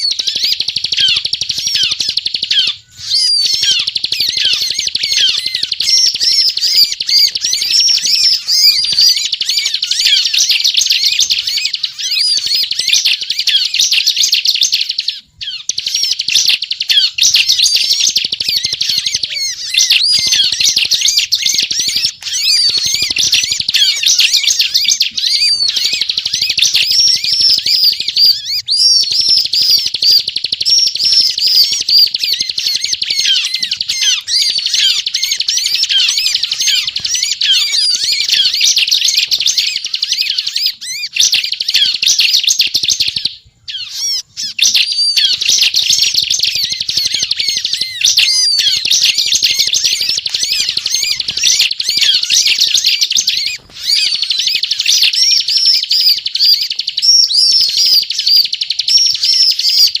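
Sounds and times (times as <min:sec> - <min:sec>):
bird chattering song: 0:00.0 - 1:00.0.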